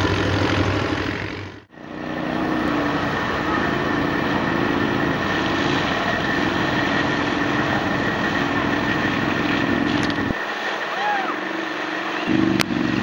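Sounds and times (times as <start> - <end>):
high whine: 0.0 - 13.0
vehicle engine running under load: 0.0 - 13.0
wheels ploughing through mud: 0.0 - 13.0.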